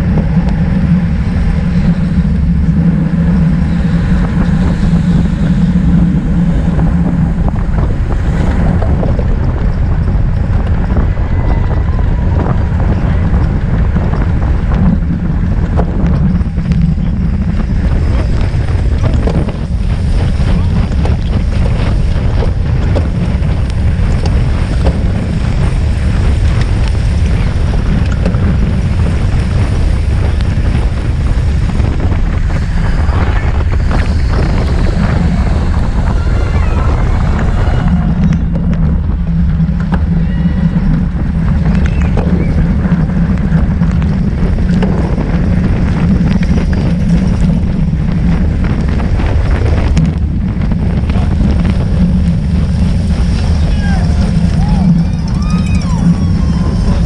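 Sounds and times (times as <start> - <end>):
low drone: 0.0 - 57.0
wind rushing over microphone: 0.0 - 57.0.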